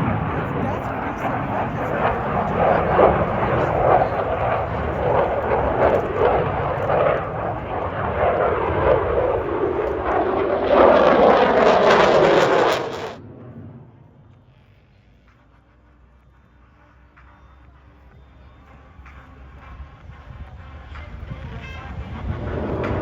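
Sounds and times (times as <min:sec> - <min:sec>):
airplane engine roar: 0:00.0 - 0:23.0.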